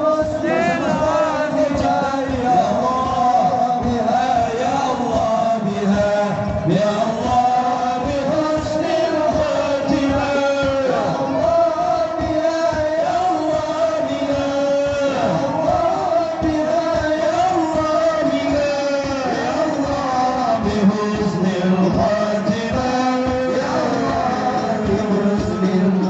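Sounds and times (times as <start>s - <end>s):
men singing a devotional chant: 0.0s - 26.0s.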